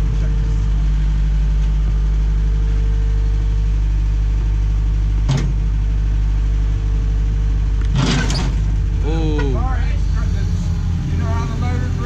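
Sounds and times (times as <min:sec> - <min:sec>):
loader engine idling: 0:00.0 - 0:12.0.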